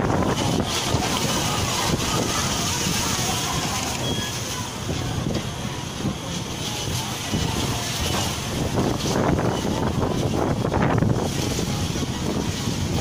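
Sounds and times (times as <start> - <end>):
heavy rain hiss: 0.0 - 13.0
strong wind buffeting microphone: 0.0 - 13.0.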